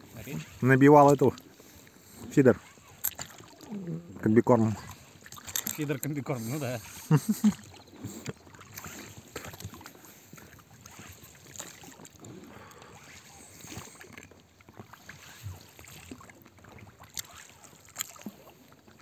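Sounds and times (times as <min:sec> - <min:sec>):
oars splashing in water: 0:00.0 - 0:19.0.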